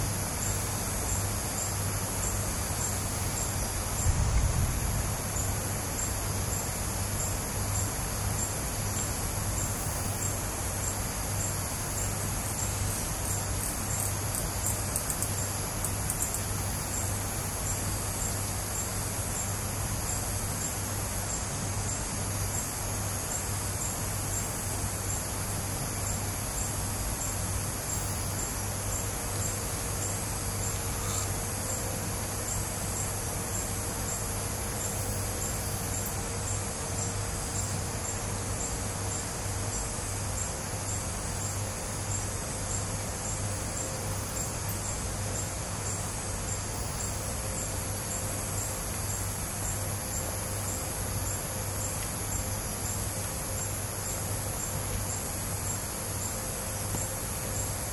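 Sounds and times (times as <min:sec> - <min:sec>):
insects trilling: 0:00.0 - 0:57.9
low steady hum: 0:00.0 - 0:57.9
pulsing insect chirp: 0:00.0 - 0:57.9.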